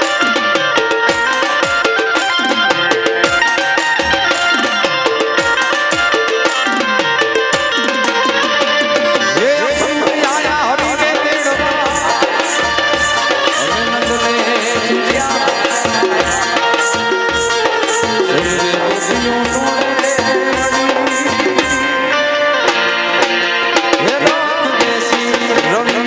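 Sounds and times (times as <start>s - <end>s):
electronic keyboard melody: 0.0s - 25.9s
hand drum beat: 0.0s - 26.0s.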